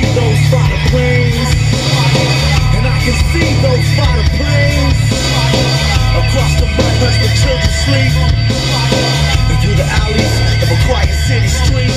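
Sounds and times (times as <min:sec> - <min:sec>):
hip hop music with heavy bass: 0:00.0 - 0:11.9.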